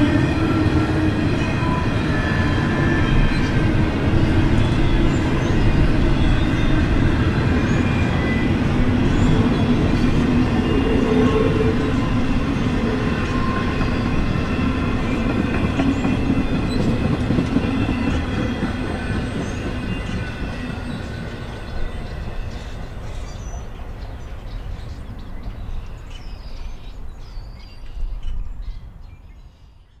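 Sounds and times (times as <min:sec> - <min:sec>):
model train rumbling on track: 0:00.0 - 0:25.8.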